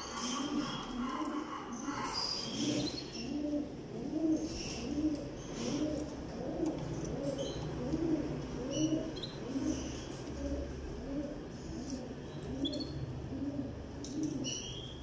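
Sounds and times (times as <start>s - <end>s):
canaries chirping: 0.0s - 15.0s
pigeons cooing: 0.0s - 15.0s.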